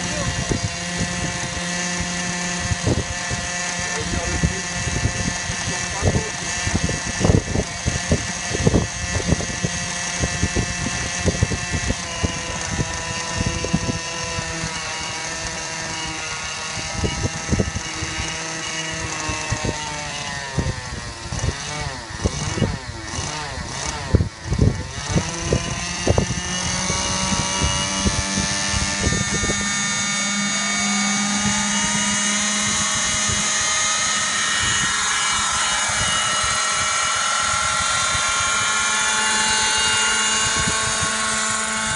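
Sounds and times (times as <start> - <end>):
helicopter engine running: 0.0 - 41.9.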